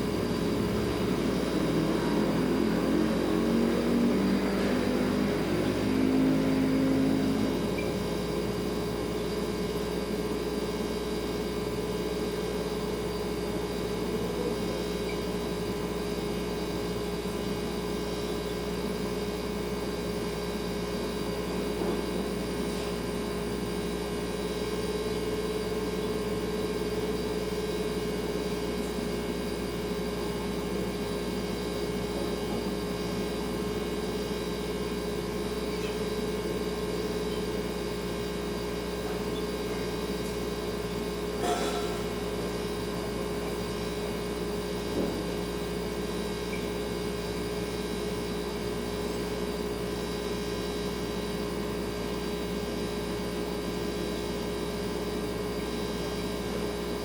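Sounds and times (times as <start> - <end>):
refrigerator humming: 0.0 - 57.0.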